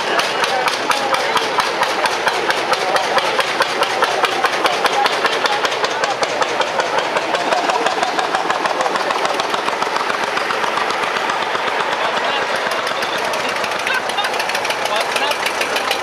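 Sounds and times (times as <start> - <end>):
tractor engine rapid knocking: 0.0 - 16.0.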